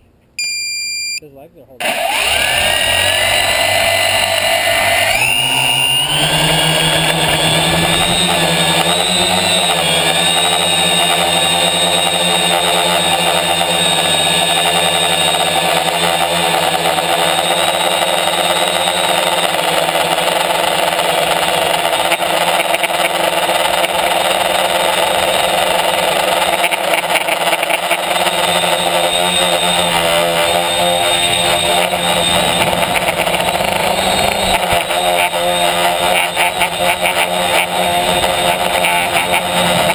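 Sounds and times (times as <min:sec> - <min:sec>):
drone motors and propellers buzzing: 0:01.8 - 0:39.9.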